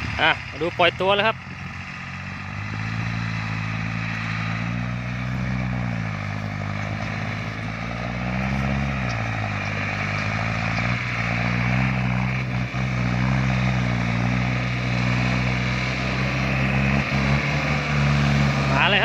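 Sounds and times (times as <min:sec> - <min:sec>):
truck diesel engine labouring: 0:00.0 - 0:19.0.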